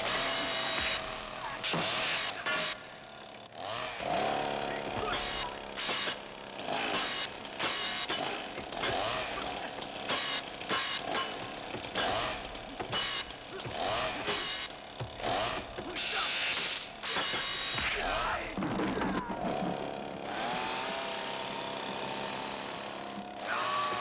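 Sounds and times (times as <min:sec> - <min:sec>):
chainsaws revving and bogging: 0:00.0 - 0:24.0.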